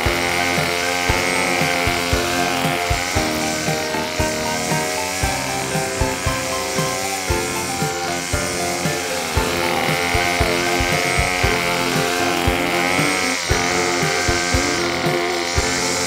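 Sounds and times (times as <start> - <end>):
background music with beat: 0.0 - 16.0
string trimmer whining: 0.0 - 16.0.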